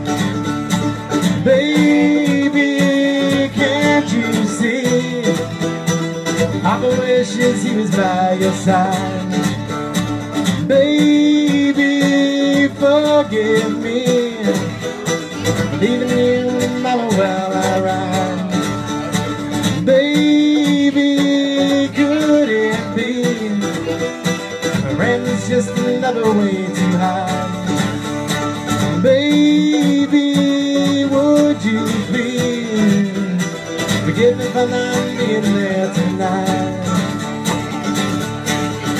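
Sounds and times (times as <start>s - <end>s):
second guitar: 0.0s - 38.9s
sliding lead guitar line: 0.0s - 38.9s
strummed acoustic guitar: 0.0s - 38.9s.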